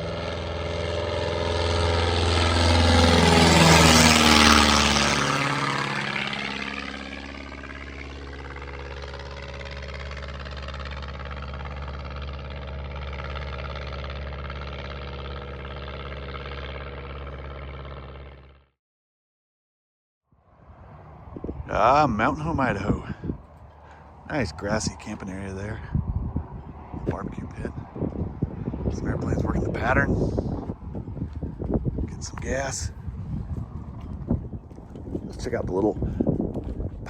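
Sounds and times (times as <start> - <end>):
light airplane passing: 0.0 - 18.7, 20.3 - 37.0.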